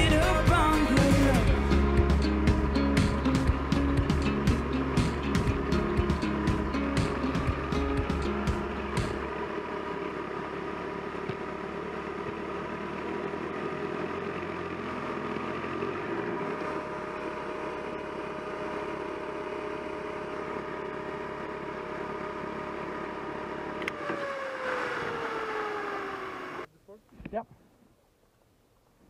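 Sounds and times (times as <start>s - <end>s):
motorcycle engine running: 0.0s - 26.7s.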